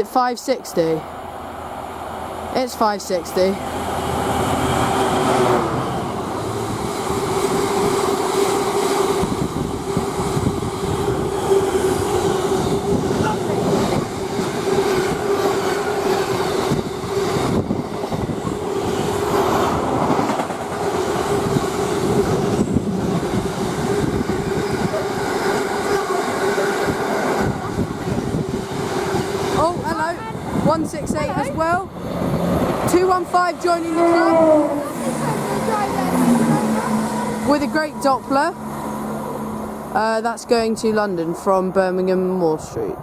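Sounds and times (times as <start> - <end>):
train wagons rumbling past: 1.0 - 43.0.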